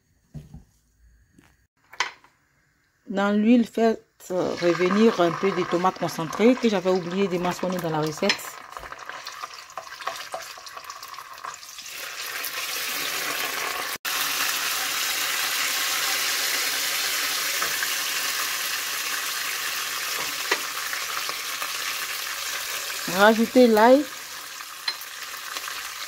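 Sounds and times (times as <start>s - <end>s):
paste sizzling in oil: 4.6s - 26.0s.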